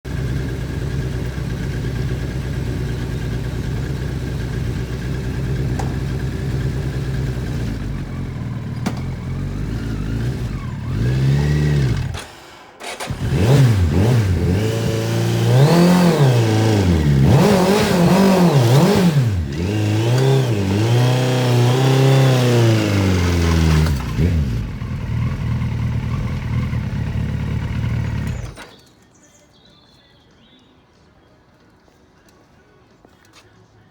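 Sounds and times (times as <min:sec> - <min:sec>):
engine idling and revving: 0:00.1 - 0:28.6.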